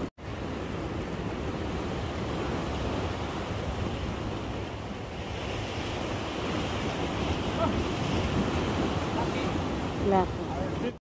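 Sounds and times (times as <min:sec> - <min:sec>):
sea waves washing against breakwater: 0:00.0 - 0:11.0
wind buffeting microphone: 0:00.0 - 0:11.0.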